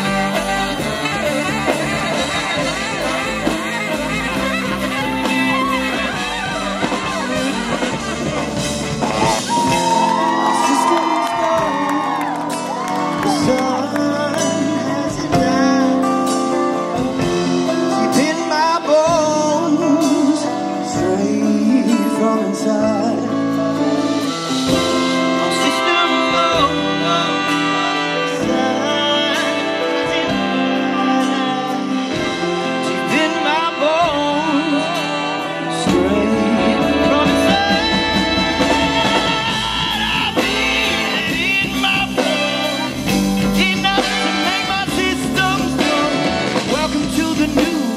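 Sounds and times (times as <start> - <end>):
person singing: 0.0 - 47.9
swing band playing: 0.0 - 47.9.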